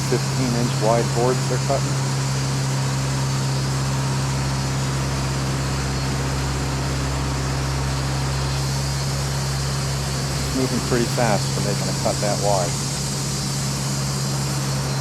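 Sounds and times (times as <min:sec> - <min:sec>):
band sawmill cutting log: 0:00.0 - 0:15.0.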